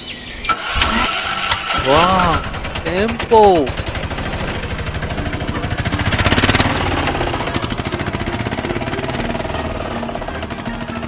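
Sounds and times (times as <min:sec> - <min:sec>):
three-wheeler engine chugging: 0:00.5 - 0:11.0.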